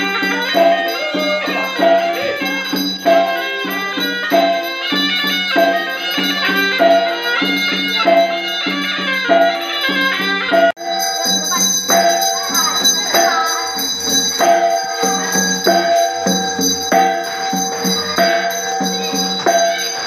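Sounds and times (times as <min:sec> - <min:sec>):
shawm playing a melody: 0:00.0 - 0:20.0.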